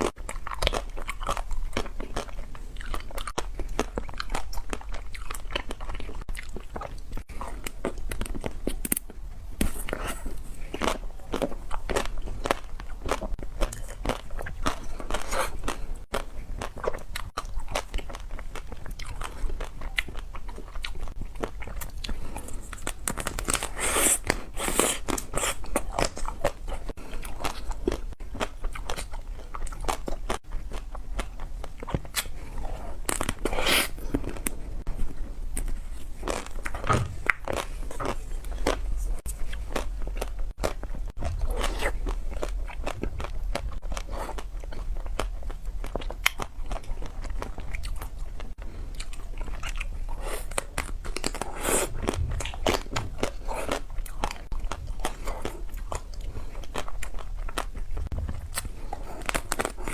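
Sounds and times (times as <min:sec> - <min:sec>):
wet chewing: 0:00.0 - 0:59.9.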